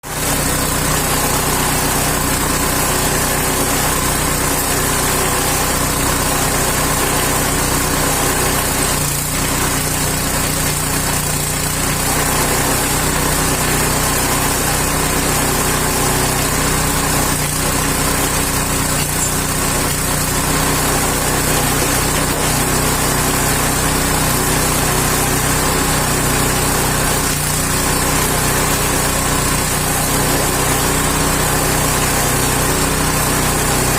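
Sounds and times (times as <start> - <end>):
small engine running steadily: 0.0 - 33.9.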